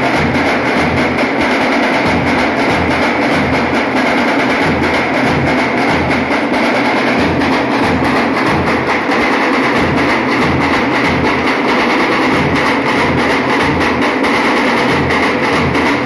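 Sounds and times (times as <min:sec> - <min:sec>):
dhol drums beating: 0:00.0 - 0:16.0
tasha drums rattling: 0:00.0 - 0:16.0.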